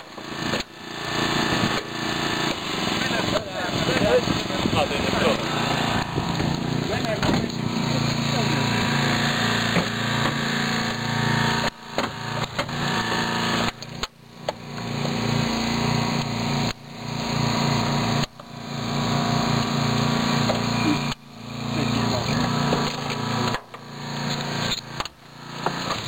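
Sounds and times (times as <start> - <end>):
small petrol engine running: 0.0 - 26.0.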